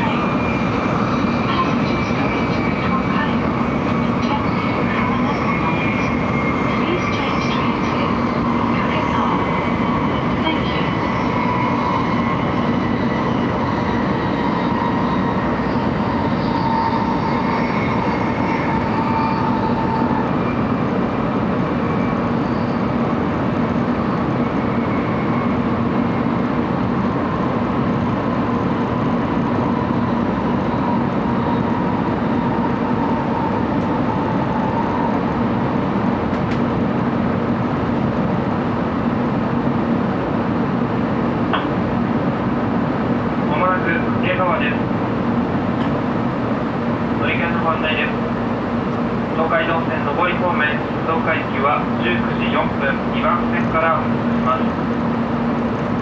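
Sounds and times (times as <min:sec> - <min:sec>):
train wheels and air roaring: 0:00.0 - 0:56.0.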